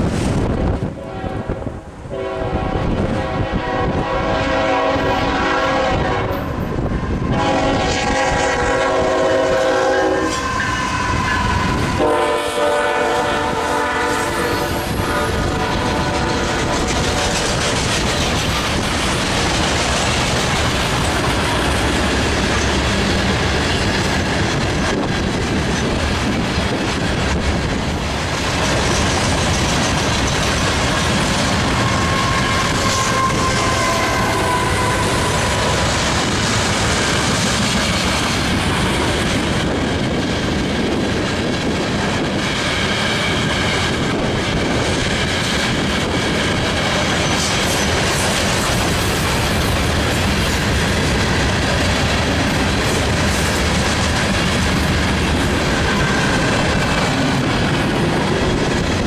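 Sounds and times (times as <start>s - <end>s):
diesel locomotive passing: 0.0s - 59.0s
freight train wheels rumbling: 0.0s - 59.0s.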